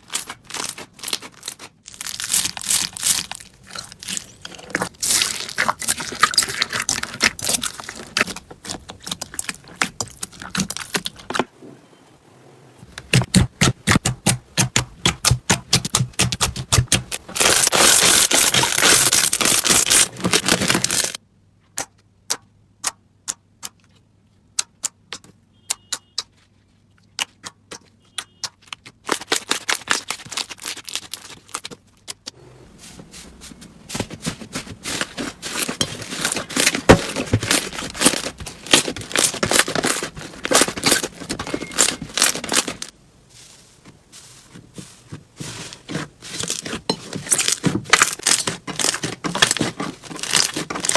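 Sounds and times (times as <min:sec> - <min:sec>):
crunchy slime crackling: 0:00.0 - 0:11.4, 0:13.2 - 0:21.2, 0:27.1 - 0:32.4, 0:33.1 - 0:43.6, 0:44.2 - 0:50.9.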